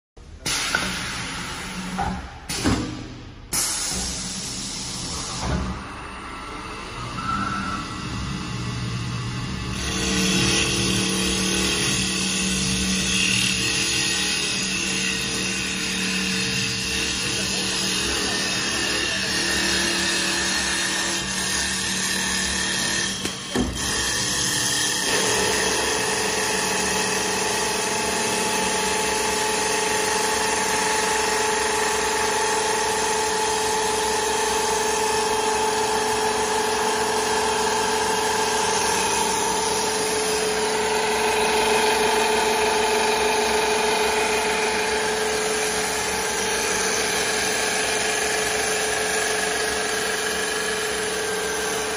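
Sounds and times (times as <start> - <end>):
steady motor whine: 4.4 - 51.9
wood lathe sanding drone: 9.5 - 23.3, 23.9 - 51.9.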